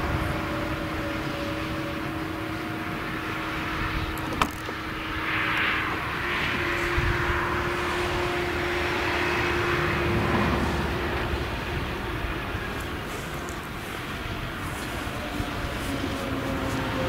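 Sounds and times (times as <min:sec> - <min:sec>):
forage harvester engine drone: 0:00.0 - 0:17.0
tractor engine running: 0:00.0 - 0:17.0.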